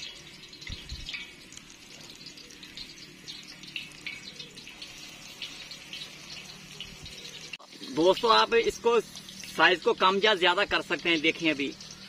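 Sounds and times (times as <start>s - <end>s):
kebabs sizzling in hot oil: 0.0s - 12.0s.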